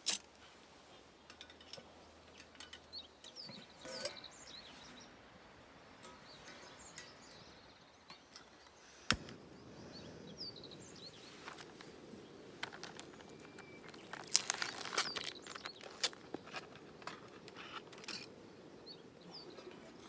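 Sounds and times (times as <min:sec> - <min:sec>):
rustles: 0:00.0 - 0:20.0
steady low hiss: 0:00.0 - 0:20.0
small birds chirping: 0:00.3 - 0:20.0.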